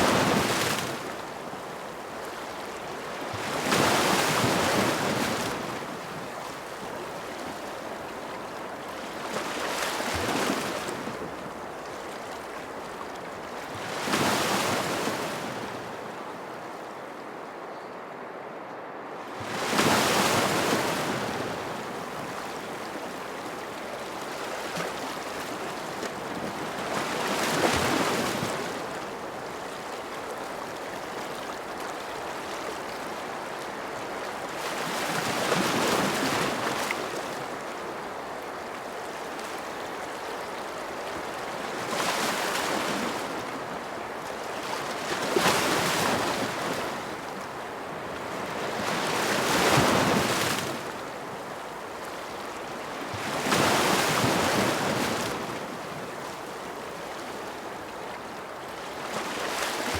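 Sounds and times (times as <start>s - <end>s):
ocean waves: 0.0s - 17.7s, 18.8s - 59.9s.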